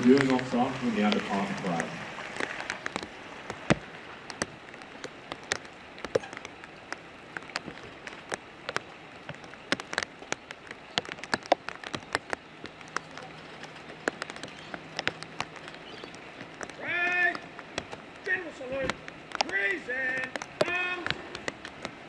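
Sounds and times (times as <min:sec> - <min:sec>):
raindrops tapping close by: 0:00.0 - 0:22.0
steady rain falling: 0:00.0 - 0:22.0.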